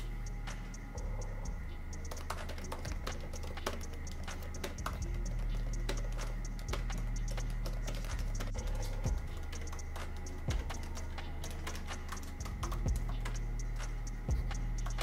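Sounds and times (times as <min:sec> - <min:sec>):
background music: 0:00.0 - 0:15.0
laptop keyboard typing: 0:02.0 - 0:14.1.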